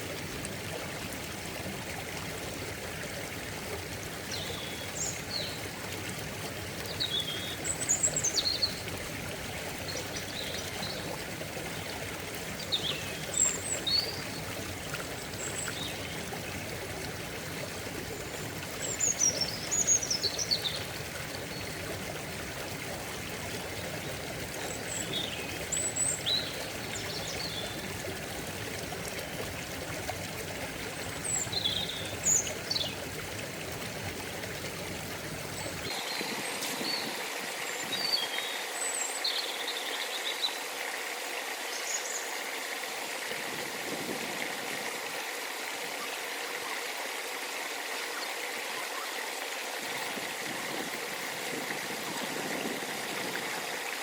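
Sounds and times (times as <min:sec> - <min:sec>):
stream rushing and trickling: 0:00.0 - 0:54.0.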